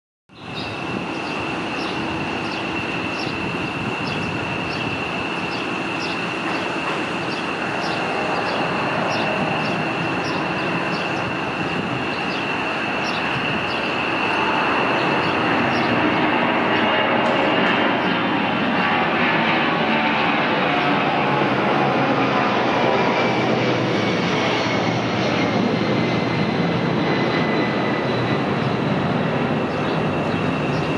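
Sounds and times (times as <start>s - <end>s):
jet engines roaring: 0.3s - 30.9s.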